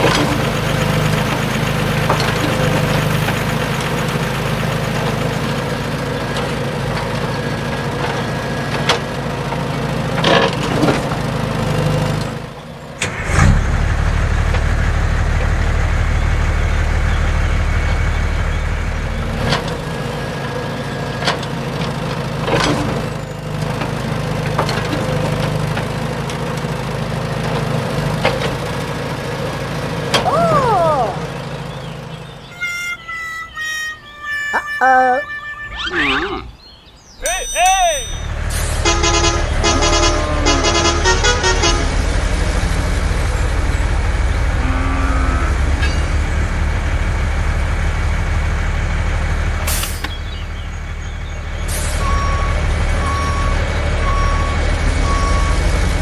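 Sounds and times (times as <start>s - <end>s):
small tractor motor running: 0.0s - 34.6s, 38.2s - 56.0s.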